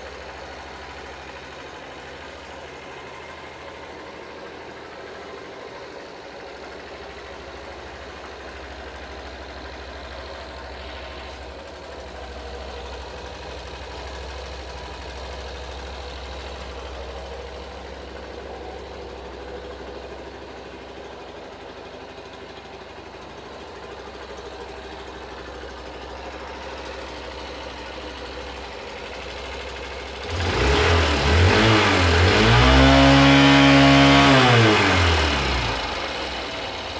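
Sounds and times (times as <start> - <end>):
motorcycle engine idling: 0.0 - 36.9
motorcycle engine revving: 0.0 - 36.9.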